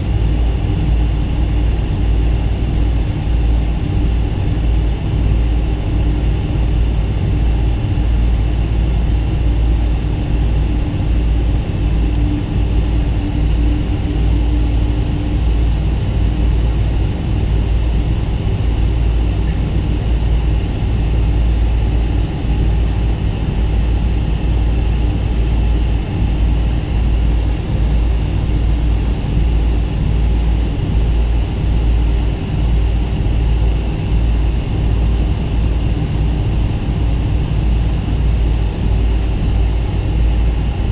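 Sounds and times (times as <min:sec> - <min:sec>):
faint steady hum: 0:00.0 - 0:40.9
jet engine cabin rumble: 0:00.0 - 0:40.9.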